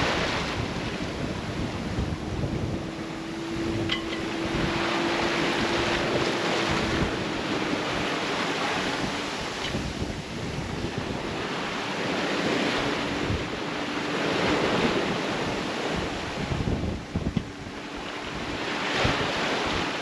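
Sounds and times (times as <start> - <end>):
water rushing: 0.0 - 20.0
wind buffeting microphone: 0.0 - 20.0.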